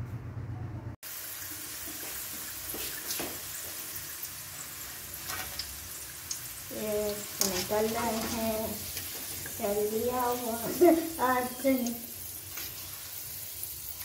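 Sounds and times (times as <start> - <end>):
fries sizzling in hot oil: 1.0 - 14.0.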